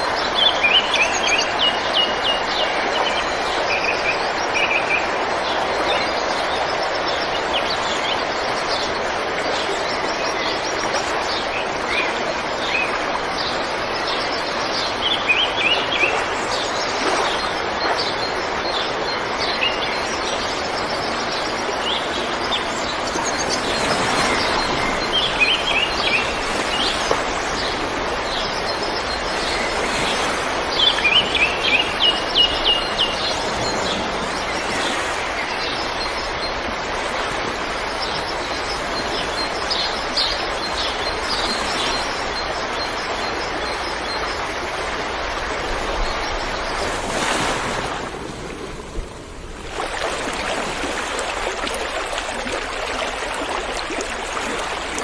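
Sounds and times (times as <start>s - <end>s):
rushing water: 0.0s - 55.0s
songbirds chirping: 0.0s - 55.0s.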